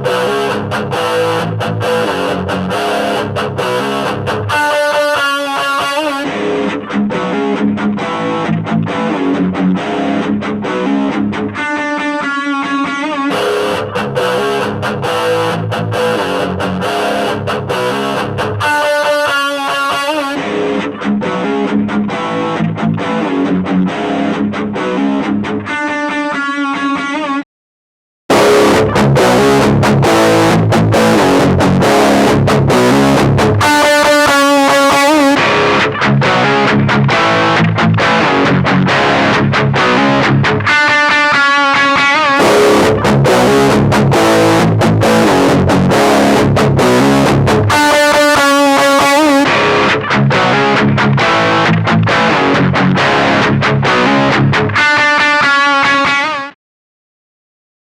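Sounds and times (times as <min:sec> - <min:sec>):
distorted electric guitar riff: 0:00.0 - 0:27.4, 0:28.3 - 0:56.6.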